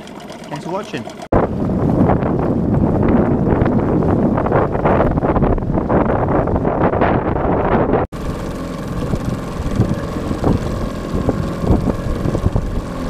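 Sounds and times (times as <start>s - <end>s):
outboard motor running: 0.0s - 13.0s
water noise: 0.0s - 13.0s
wind buffeting microphone: 0.5s - 13.0s.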